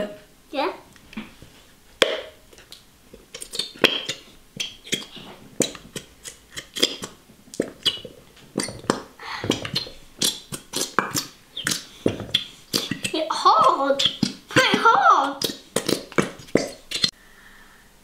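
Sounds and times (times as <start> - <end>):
glue bottles squelching: 2.1 - 17.2.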